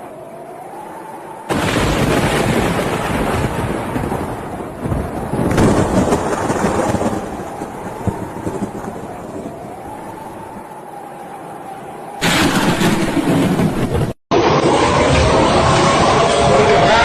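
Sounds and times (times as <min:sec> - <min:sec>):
thunder crack and rumble: 0:01.4 - 0:10.9, 0:12.1 - 0:17.0.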